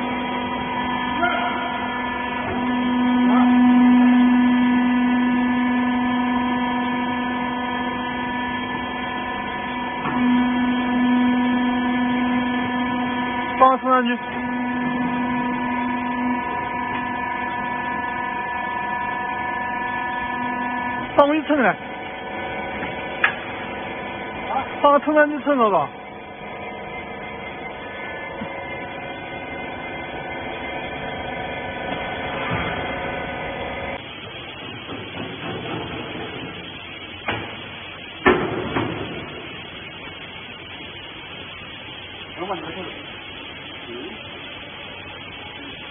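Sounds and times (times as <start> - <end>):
electric motor and pump humming: 0.0 - 45.9.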